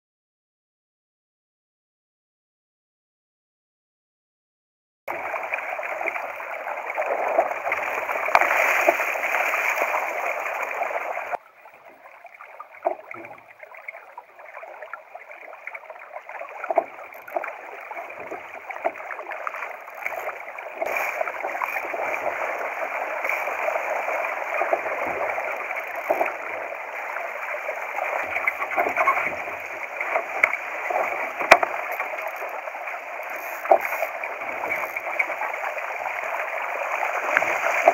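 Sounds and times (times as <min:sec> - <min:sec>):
water rushing along a boat hull: 0:05.1 - 0:37.9.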